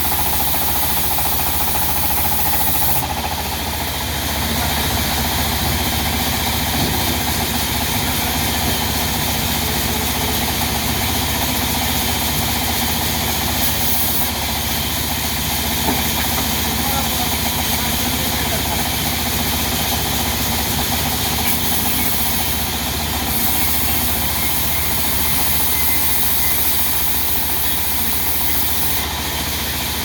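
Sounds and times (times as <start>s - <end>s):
diesel engine pulsing steadily: 0.0s - 30.0s.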